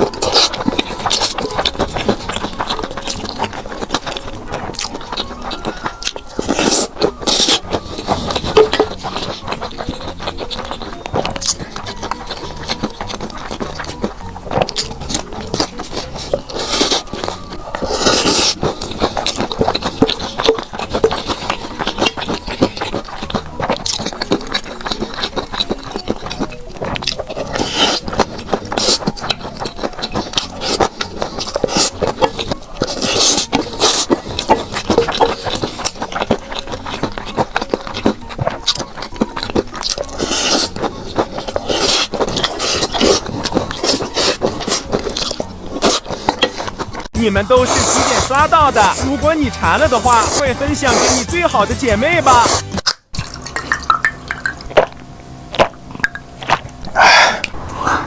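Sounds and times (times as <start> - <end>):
crunchy bites: 0.0 - 58.0
person chewing food: 0.0 - 58.0.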